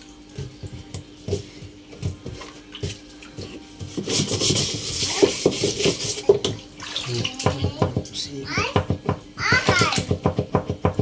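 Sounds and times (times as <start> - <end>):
water splashing in washing machine: 0.0 - 11.0.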